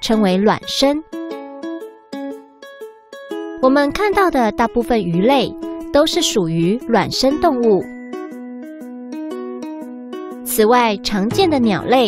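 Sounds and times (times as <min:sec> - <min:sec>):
plucked string tune: 0:00.0 - 0:12.0.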